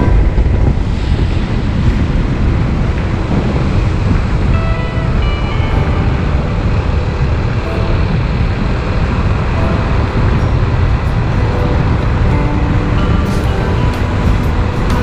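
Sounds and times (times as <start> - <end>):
vehicle driving on wet road: 0.0 - 15.0.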